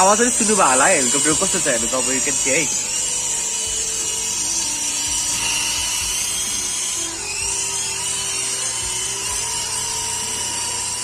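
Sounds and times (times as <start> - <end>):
toy helicopter motor whine: 0.0 - 11.0.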